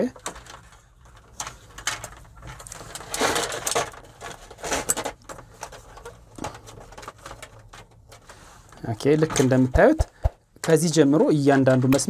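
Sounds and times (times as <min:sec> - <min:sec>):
rustling: 0:00.2 - 0:10.0.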